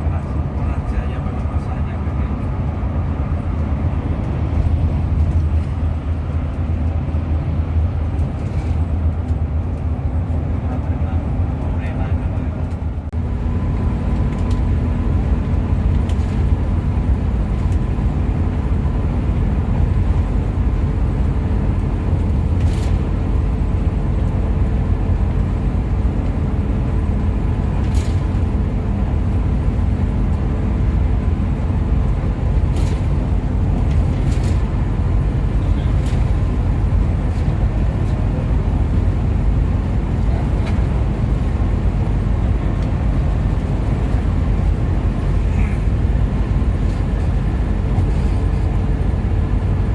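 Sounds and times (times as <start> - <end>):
coach engine and road noise: 0.0 - 49.9.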